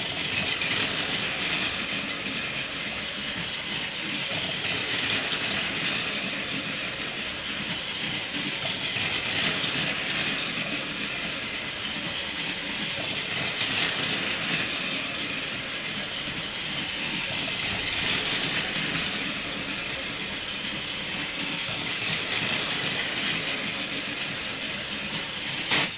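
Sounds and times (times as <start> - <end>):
toy train motor whirr: 0.0 - 25.9
wheels rattling over track: 0.0 - 25.9.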